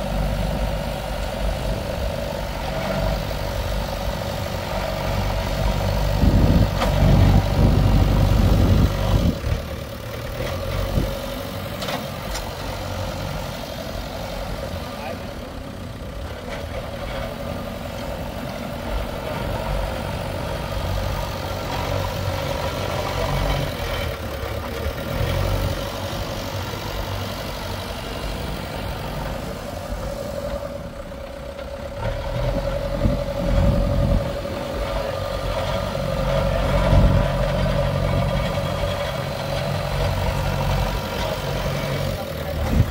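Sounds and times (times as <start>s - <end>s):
heavy diesel engine rumbling: 0.0s - 42.9s.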